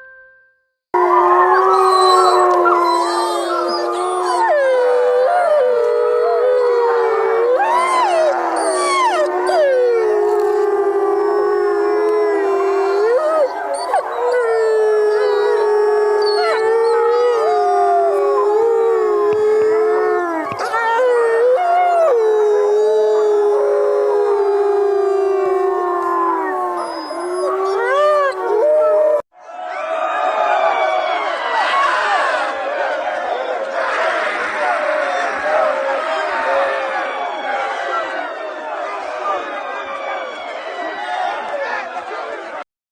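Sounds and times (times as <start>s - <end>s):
voices howling: 1.0s - 29.3s, 33.4s - 42.3s.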